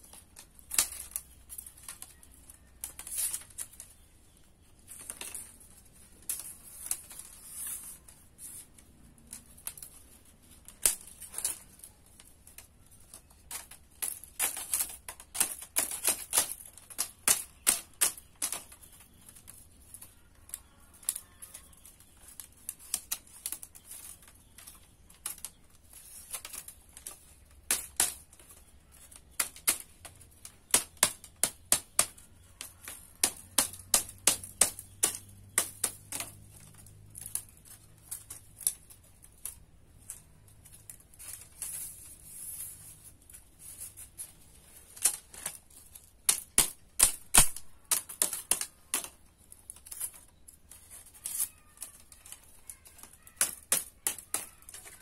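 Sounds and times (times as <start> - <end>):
bamboo strips clacking: 0.0 - 55.0.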